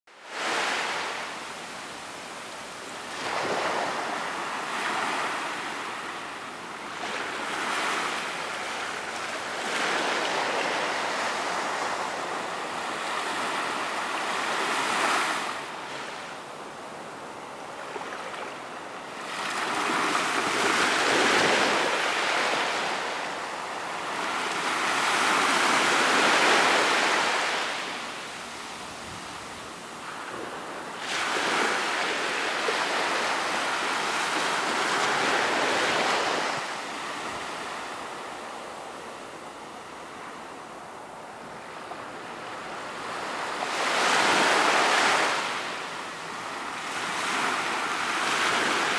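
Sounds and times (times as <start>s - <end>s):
sea waves washing onto beach: 0.2s - 48.9s.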